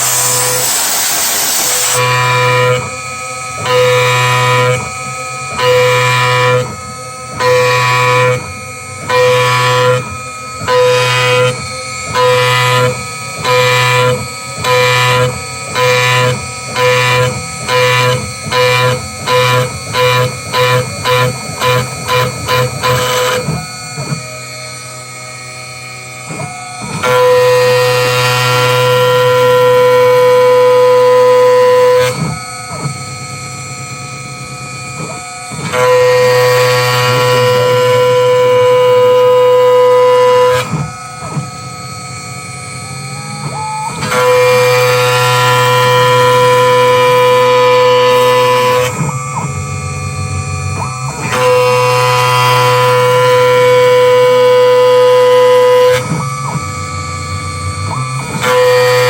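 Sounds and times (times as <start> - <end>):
milling spindle cutting material: 0.0 - 41.8, 42.7 - 59.0.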